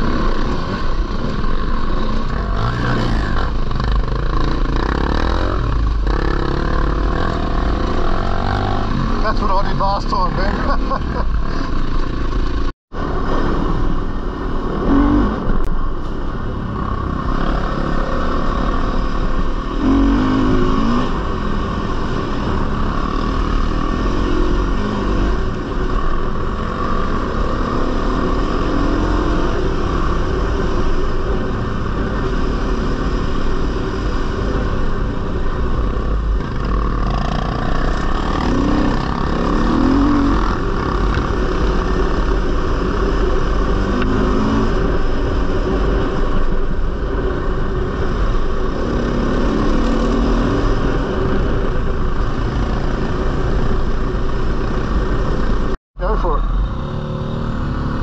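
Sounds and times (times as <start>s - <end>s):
dirt bike engine revving: 0.0s - 15.8s, 16.4s - 58.0s.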